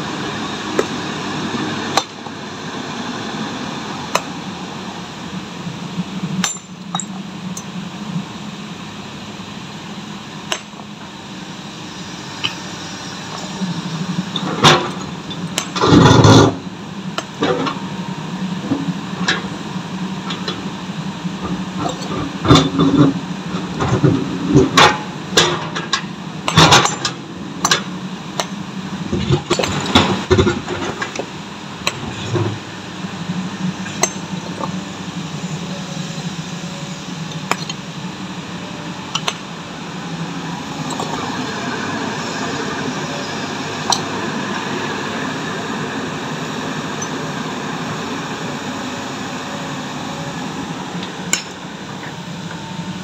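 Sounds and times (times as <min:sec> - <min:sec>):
excavator engine humming: 0:00.0 - 0:53.0.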